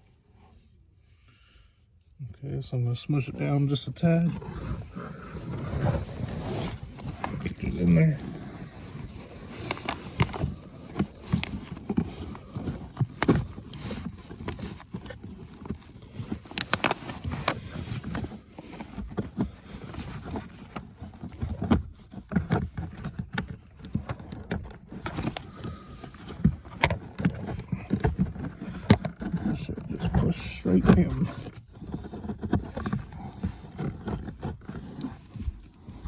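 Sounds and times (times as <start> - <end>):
plastic clicks and rustling: 6.2 - 35.9.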